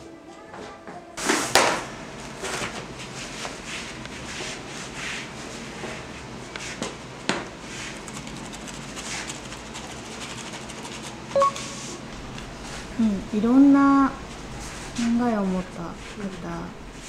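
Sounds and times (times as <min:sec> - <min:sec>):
hands rubbing and rustling linen: 0:01.2 - 0:17.0
flour shaker dusting: 0:02.3 - 0:17.0.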